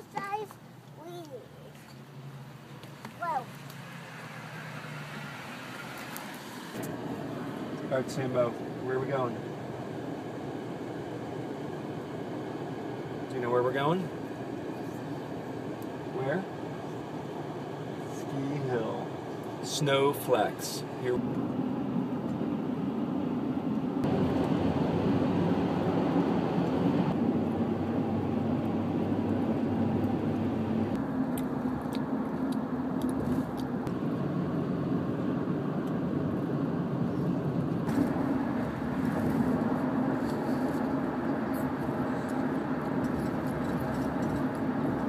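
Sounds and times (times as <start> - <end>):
car engine and tyre noise: 0.0 - 45.0.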